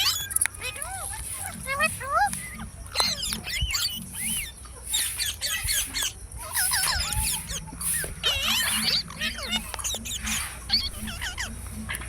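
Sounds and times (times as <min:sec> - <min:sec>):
parrots chirping and squawking: 0:00.0 - 0:12.0.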